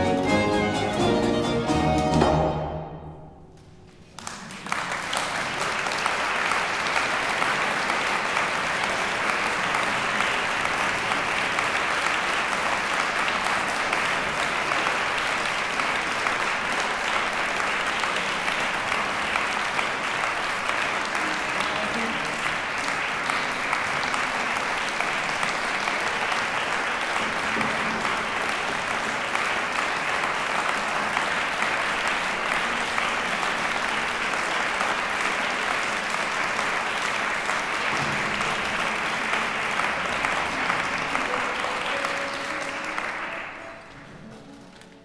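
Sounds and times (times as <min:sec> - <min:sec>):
audience applauding: 0:03.6 - 0:45.0.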